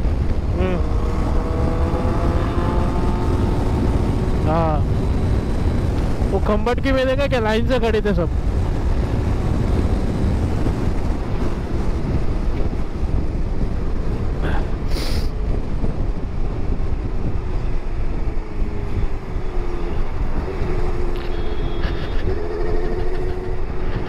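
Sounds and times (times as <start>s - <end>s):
motorcycle engine hum: 0.0s - 24.0s
wind rush on microphone: 0.0s - 24.0s.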